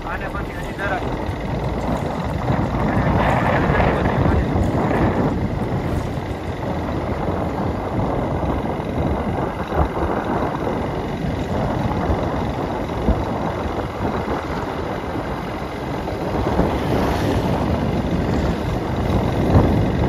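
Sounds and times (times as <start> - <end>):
motorcycle engine running: 0.0 - 20.0
road and rushing air noise: 0.0 - 20.0.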